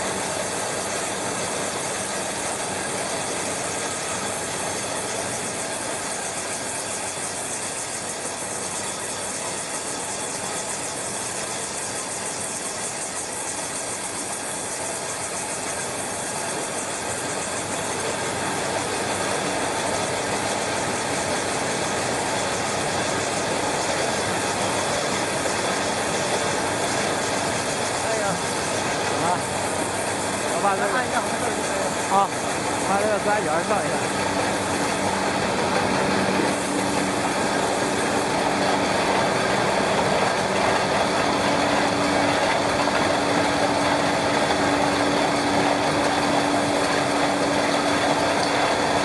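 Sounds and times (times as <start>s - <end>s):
machine running: 0.0s - 49.0s.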